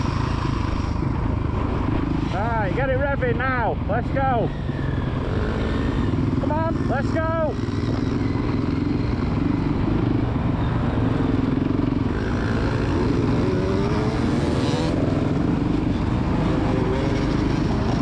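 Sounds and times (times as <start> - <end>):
motocross bike engine revving: 0.0 - 2.4, 3.3 - 18.0.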